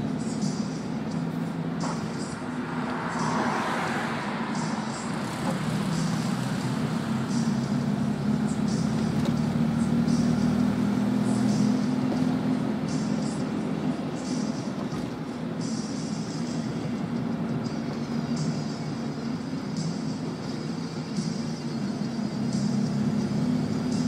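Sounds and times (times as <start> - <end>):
car engine droning: 0.0 - 24.0
road and wind noise: 0.0 - 24.0.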